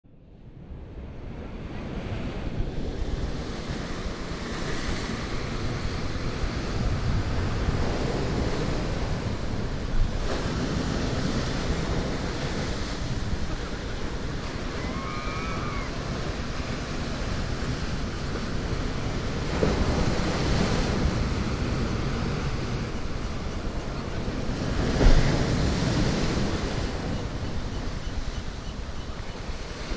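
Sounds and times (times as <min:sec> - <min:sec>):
wind buffeting microphone: 0:00.6 - 0:29.9
ocean surf against rocks: 0:00.8 - 0:29.9.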